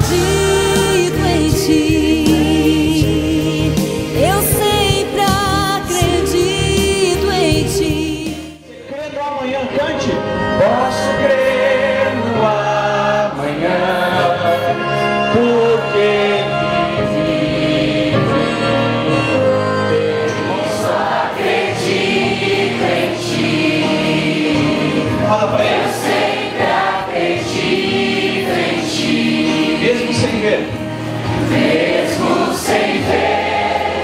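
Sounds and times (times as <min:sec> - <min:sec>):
choir singing worship song: 0:00.0 - 0:09.2, 0:10.2 - 0:34.0.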